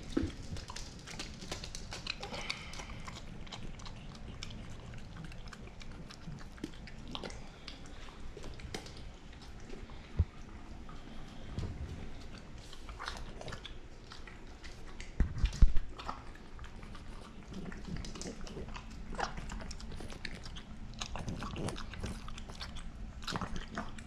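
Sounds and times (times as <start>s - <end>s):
dog licking and chewing: 0.0s - 24.0s.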